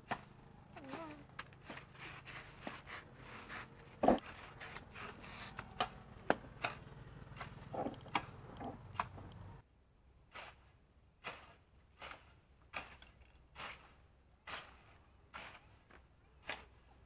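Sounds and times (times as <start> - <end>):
hoe chopping and scraping soil: 0.0 - 9.6, 10.3 - 17.0.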